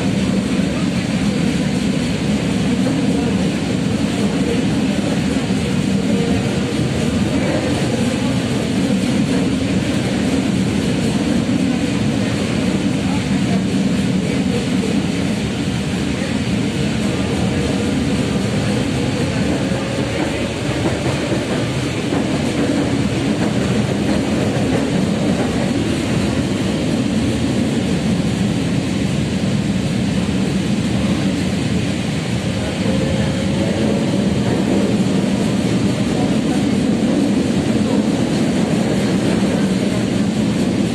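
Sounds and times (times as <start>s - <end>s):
tram wheels rumbling on rails: 0.0s - 40.9s.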